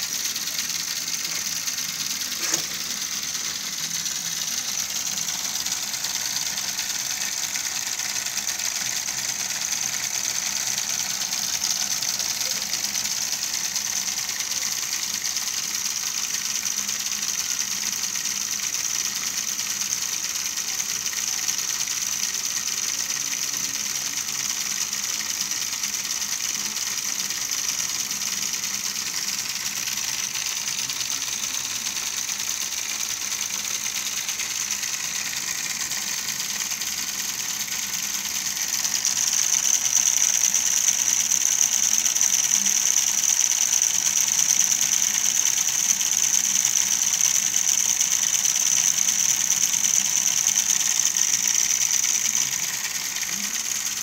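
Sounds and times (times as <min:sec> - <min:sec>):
small motors and gears whining: 0:00.0 - 0:54.0.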